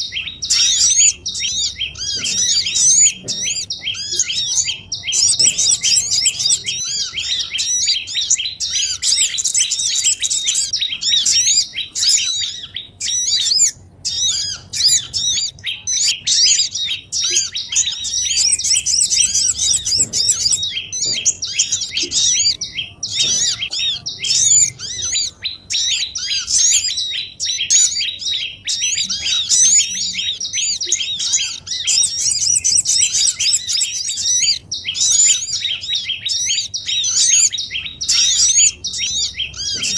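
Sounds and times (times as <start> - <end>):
small songbirds twittering chorus: 0.0 - 39.9.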